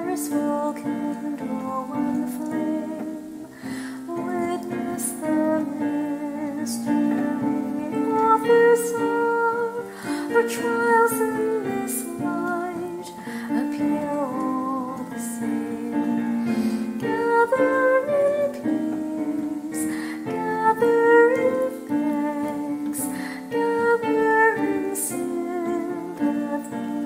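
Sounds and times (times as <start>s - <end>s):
piano chords: 0.0s - 27.0s
woman singing a hymn: 0.0s - 27.0s.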